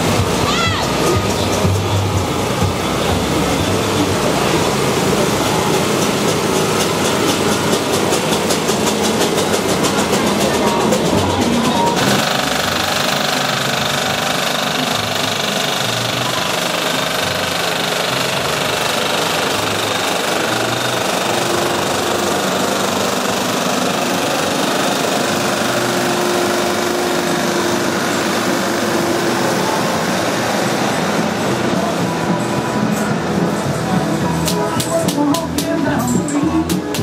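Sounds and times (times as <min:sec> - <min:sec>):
tractor diesel engine driving past: 0:00.0 - 0:35.0.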